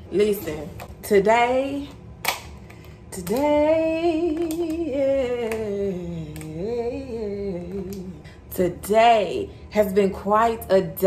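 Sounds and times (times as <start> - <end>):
woman singing wordless phrase: 0.2 - 2.0, 3.1 - 11.0.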